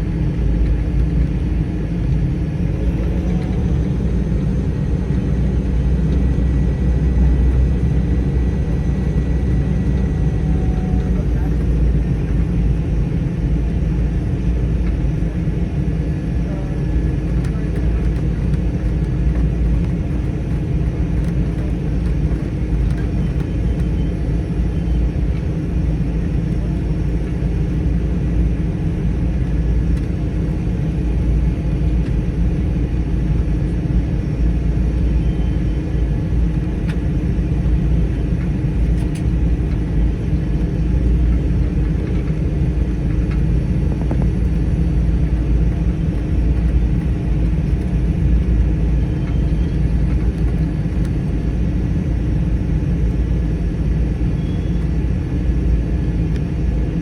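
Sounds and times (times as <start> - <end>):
faint steady whine: 0.0 - 57.0
turboprop engine rumble: 0.0 - 57.0.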